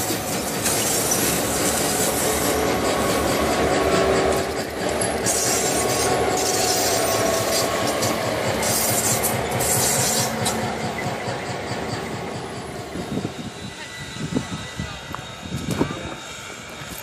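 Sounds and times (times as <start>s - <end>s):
diesel locomotive engine throbbing: 0.0s - 17.0s
wheels rumbling on rails: 0.0s - 17.0s.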